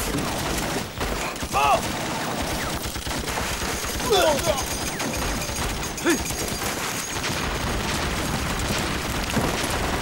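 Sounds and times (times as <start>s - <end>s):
continuous rifle and machine-gun fire: 0.0s - 10.0s.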